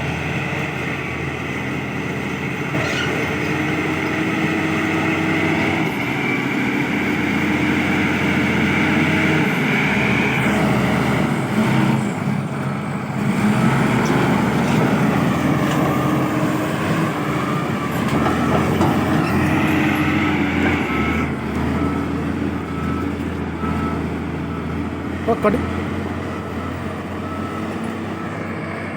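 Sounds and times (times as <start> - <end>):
bulldozer diesel engine under load: 0.0 - 28.9.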